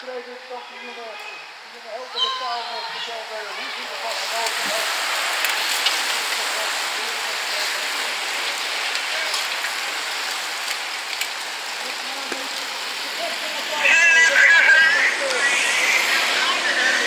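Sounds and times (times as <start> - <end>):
bicycles rushing past: 3.3 - 17.0.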